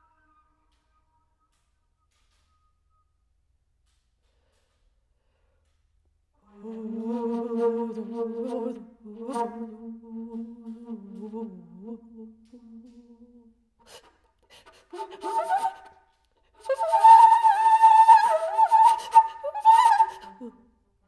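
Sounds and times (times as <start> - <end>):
breathy flute: 0.0 - 3.3, 6.4 - 20.8.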